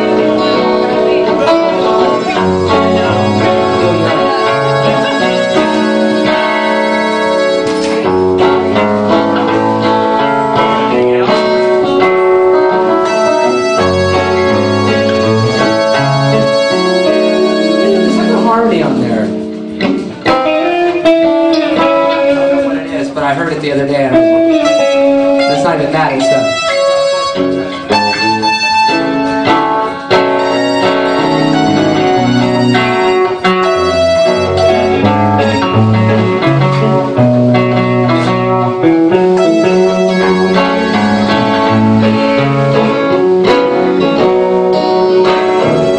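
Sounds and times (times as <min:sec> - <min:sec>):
drums: 0:00.0 - 0:26.4, 0:27.4 - 0:45.9
bass guitar: 0:00.0 - 0:45.9
electric guitars: 0:00.0 - 0:45.9
keyboard: 0:00.0 - 0:45.9
live rock band playing: 0:00.0 - 0:45.9.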